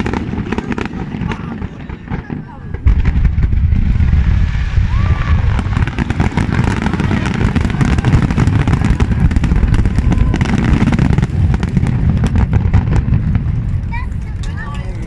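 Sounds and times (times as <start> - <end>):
fireworks bangs and crackles: 0.0 - 15.0
low rumble: 1.1 - 15.0.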